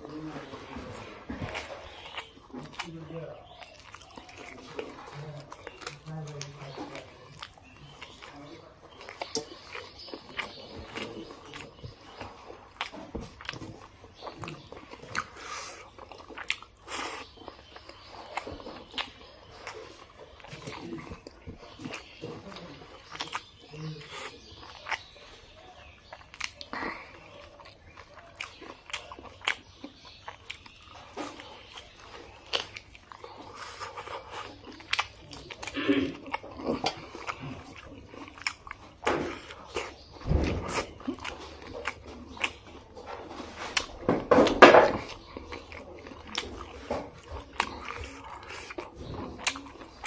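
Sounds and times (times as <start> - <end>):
wet chewing and lip smacks: 0.0 - 50.0.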